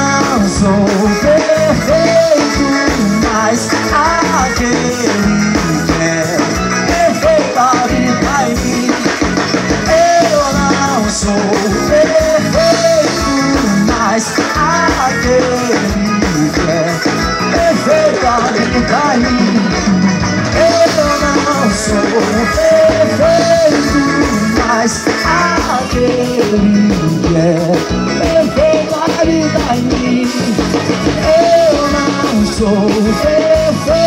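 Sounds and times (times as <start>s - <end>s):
bending lead melody: 0.0s - 34.0s
live band playing: 0.0s - 34.0s.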